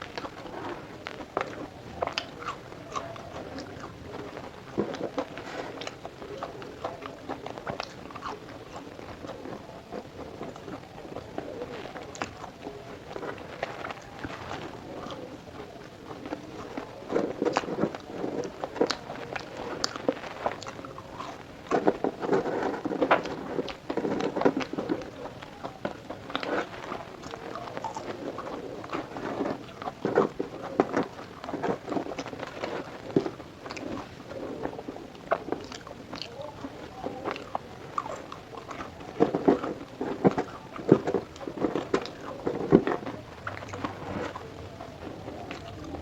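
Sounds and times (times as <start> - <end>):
person chewing crunchy food: 0.0 - 46.0.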